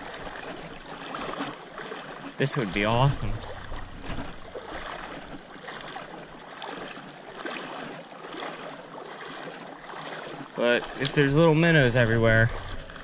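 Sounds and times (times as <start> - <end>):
creek water running over stones: 0.0 - 13.0
small splashes: 0.0 - 13.0.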